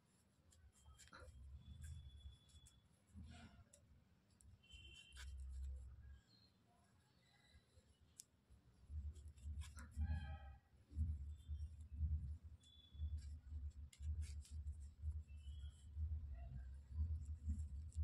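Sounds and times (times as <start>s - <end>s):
crochet hook clicking and rubbing: 0.0s - 6.2s, 8.1s - 18.0s.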